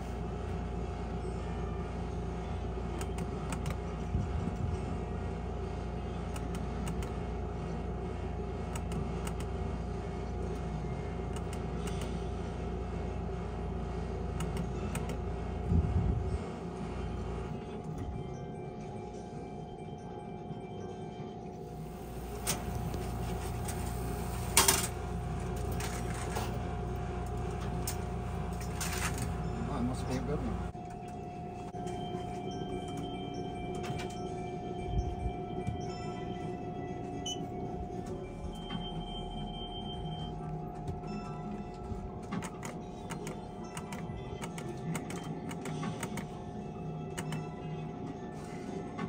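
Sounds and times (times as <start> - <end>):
low room hum: 0.0 - 49.0.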